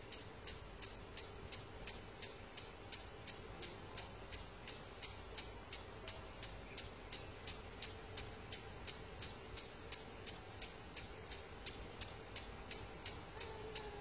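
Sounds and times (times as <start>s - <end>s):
faint steady hiss: 0.0s - 14.0s
impact sprinkler ticking: 0.0s - 14.0s.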